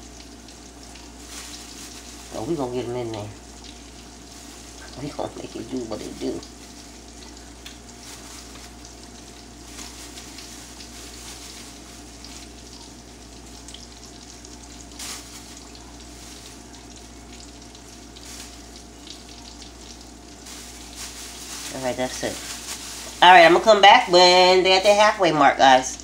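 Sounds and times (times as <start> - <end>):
oil crackling: 0.0 - 25.0
food sizzling in hot oil: 0.0 - 25.2.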